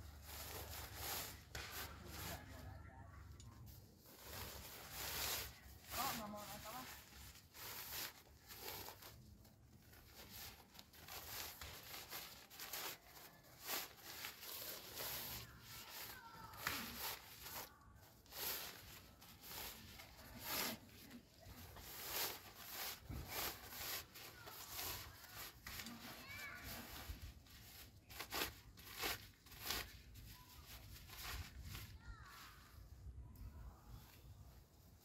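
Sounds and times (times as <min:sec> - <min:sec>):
hammock fabric rustling: 0:00.0 - 0:33.2.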